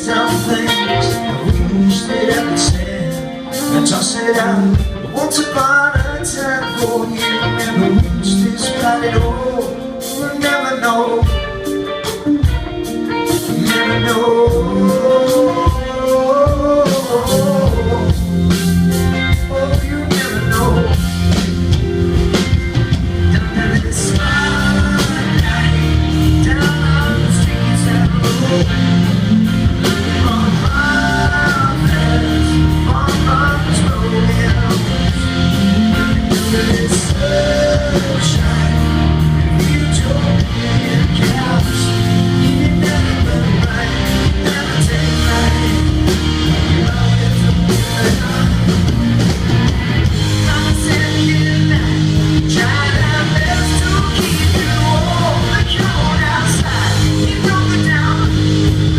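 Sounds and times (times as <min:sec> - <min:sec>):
electric guitar lead lines: 0:00.0 - 0:58.9
rock band playing: 0:00.0 - 0:58.9.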